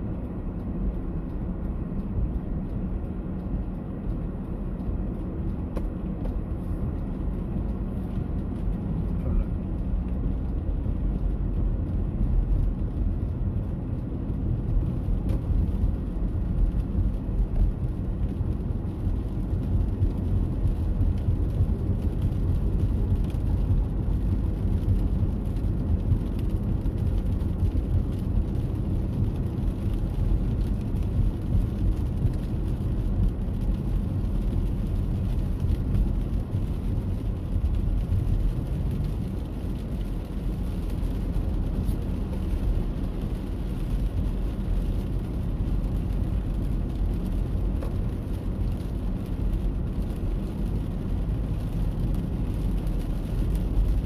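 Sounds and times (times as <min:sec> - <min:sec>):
heavy rain: 0:06.4 - 0:54.0.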